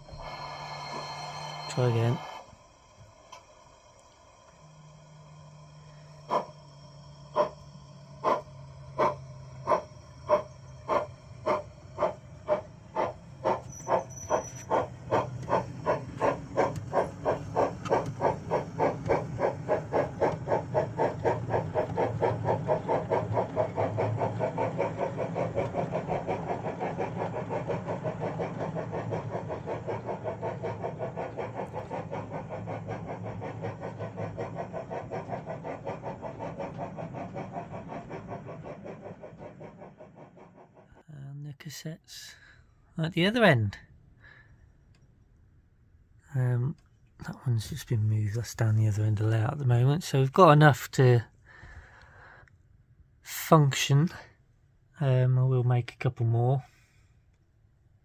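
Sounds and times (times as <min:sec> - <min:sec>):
model steam locomotive chuffing: 0:00.0 - 0:45.2, 0:46.3 - 0:52.6, 0:53.2 - 0:54.4
steady low hum: 0:00.0 - 0:58.0.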